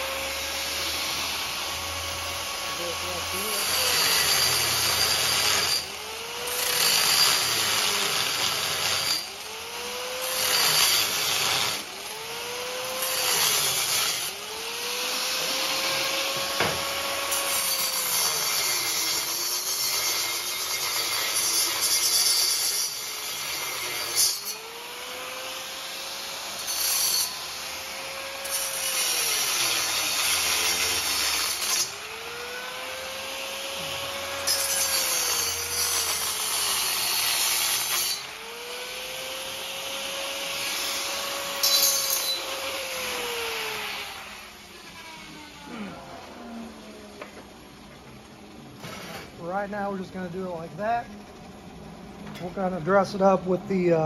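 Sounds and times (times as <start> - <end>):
angle grinder cutting steel: 0.0 - 48.2, 48.8 - 51.5.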